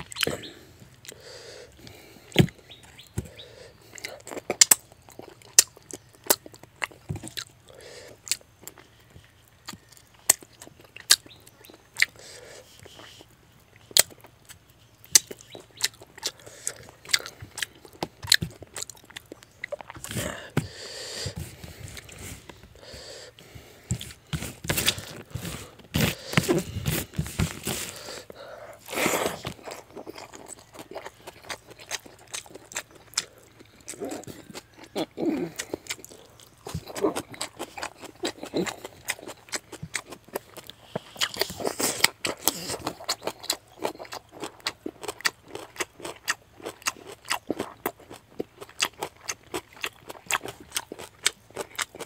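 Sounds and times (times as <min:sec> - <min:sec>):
wet chewing and lip-smacking: 0:01.8 - 0:52.0.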